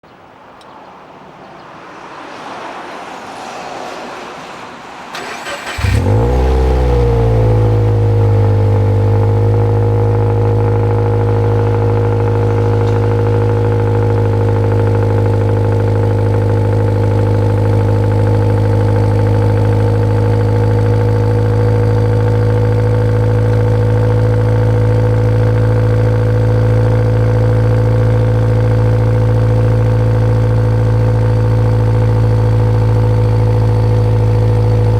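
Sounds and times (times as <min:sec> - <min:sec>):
car engine revving and idling: 0:05.1 - 0:34.9.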